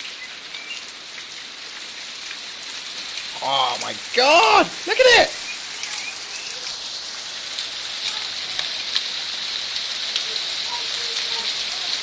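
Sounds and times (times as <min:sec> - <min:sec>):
hailstones ticking: 0:00.0 - 0:12.0
heavy rain hissing: 0:00.2 - 0:12.0.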